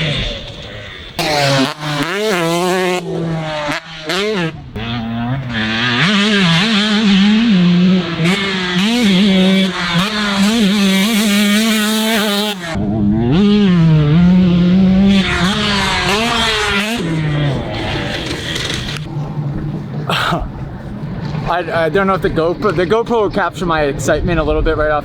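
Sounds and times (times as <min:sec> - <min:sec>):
dirt bike engine running hard: 0:00.0 - 0:22.9.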